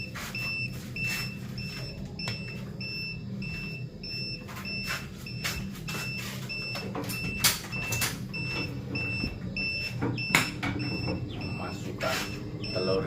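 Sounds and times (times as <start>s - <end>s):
low fan hum: 0.0s - 13.0s
rapid high alarm beeps: 0.0s - 13.0s.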